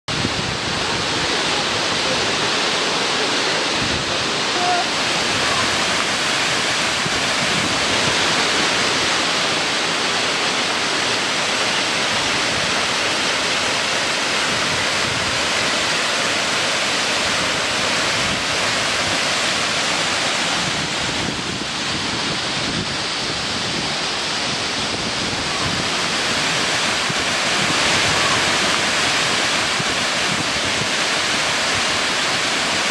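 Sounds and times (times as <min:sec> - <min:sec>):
waterfall rushing and splashing: 0:00.1 - 0:32.9.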